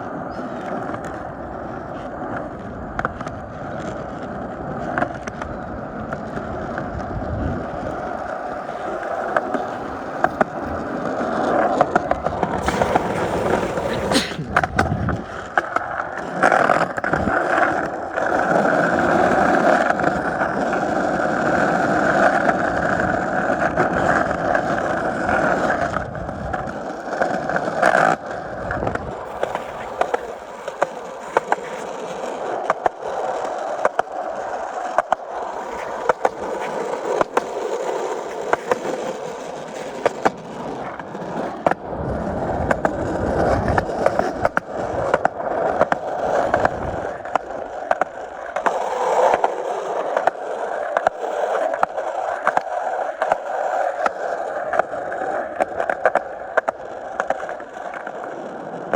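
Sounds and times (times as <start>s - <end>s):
skateboard wheels rolling on pavement: 0.0s - 58.9s.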